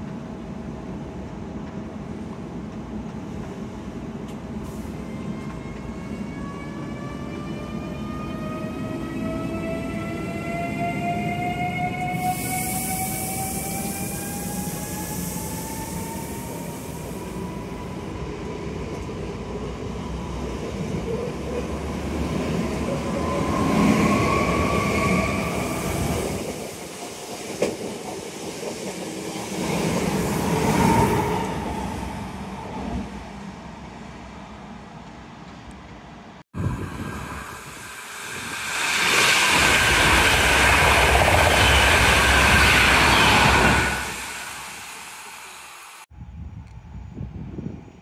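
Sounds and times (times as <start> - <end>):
train wheels on rails: 0.0 - 7.0, 7.6 - 32.2, 36.7 - 46.1.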